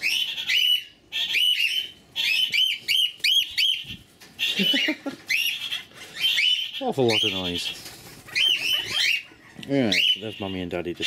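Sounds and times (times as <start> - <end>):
cockatiels whistling chirps: 0.0 - 7.5, 8.3 - 10.3.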